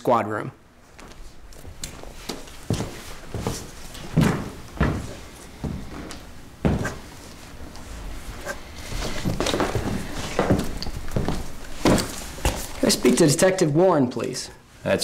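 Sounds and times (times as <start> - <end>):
footsteps: 0.8 - 13.3.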